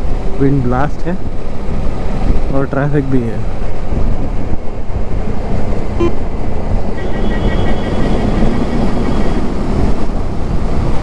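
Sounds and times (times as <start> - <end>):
traffic noise: 0.0 - 11.0
wind rushing on microphone: 0.0 - 11.0.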